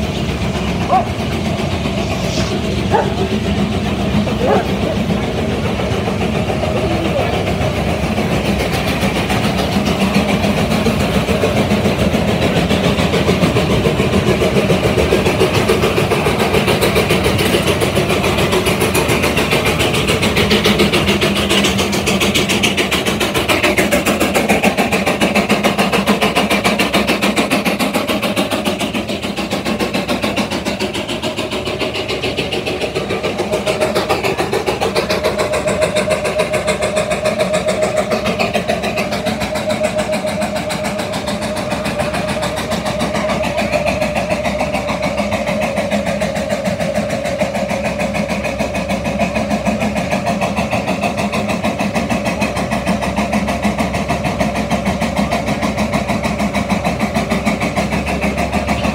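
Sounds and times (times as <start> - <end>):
steam engine exhaust beating: 0.0 - 58.9.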